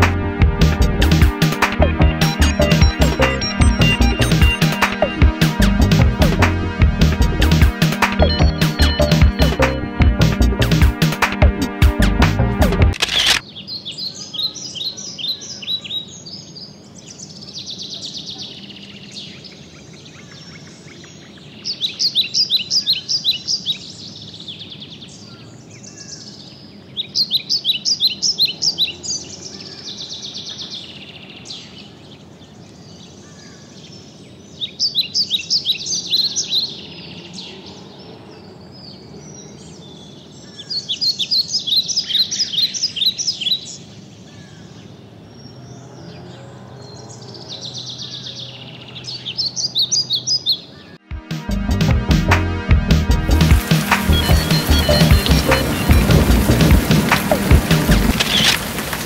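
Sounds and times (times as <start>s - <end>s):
birds chirping: 0.0s - 12.1s, 13.0s - 51.1s, 53.2s - 59.0s
outdoor ambience: 0.0s - 59.0s.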